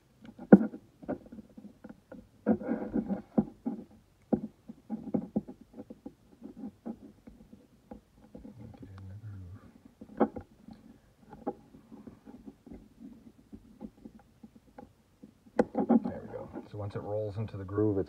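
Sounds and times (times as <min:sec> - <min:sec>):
fingers rubbing rubber seal: 0:00.3 - 0:09.0, 0:09.8 - 0:16.7.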